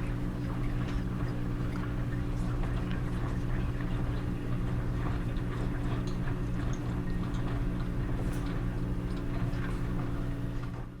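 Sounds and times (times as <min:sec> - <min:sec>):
washers and dryers humming: 0:00.0 - 0:11.0.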